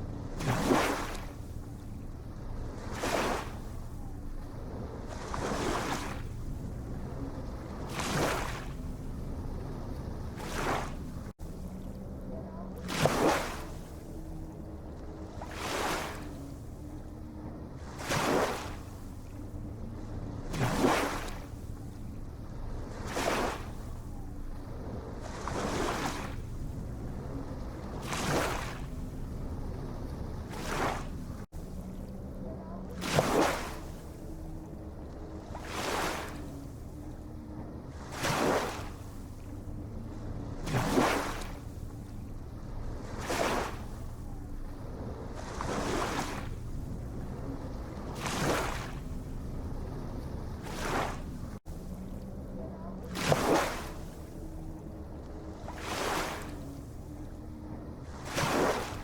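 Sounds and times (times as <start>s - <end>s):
low surf rumble: 0.0s - 59.0s
ocean waves washing in: 0.0s - 59.0s.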